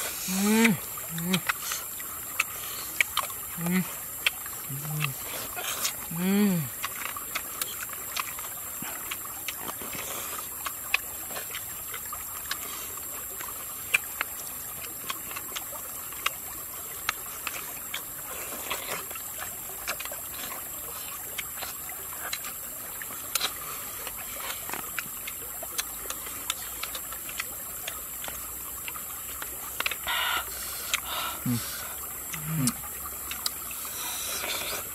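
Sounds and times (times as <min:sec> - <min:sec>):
mouth sounds of eating: 0:00.0 - 0:34.9
stream running over rocks: 0:00.0 - 0:34.9.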